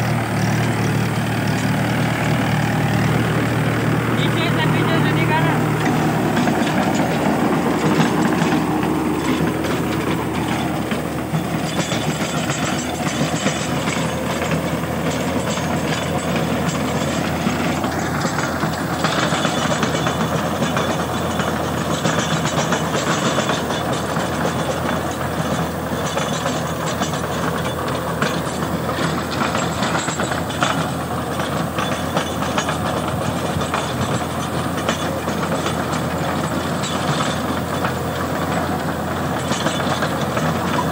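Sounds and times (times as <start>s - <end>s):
rotavator blades rattling clatter: 0.0s - 40.9s
tractor diesel engine running: 0.0s - 40.9s.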